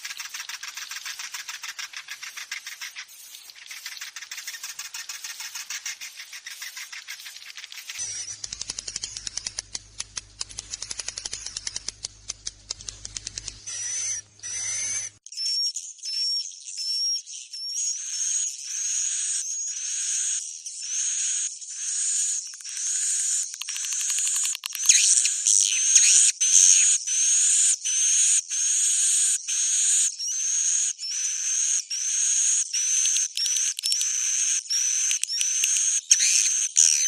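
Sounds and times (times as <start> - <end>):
swiftlets twittering and chirping: 0.0 - 37.0.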